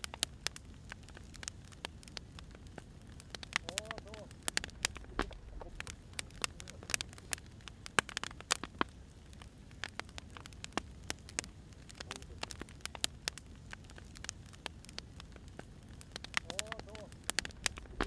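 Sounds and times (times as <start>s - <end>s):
firewood crackling and popping: 0.0s - 18.0s
low rumble of fire: 0.0s - 18.0s.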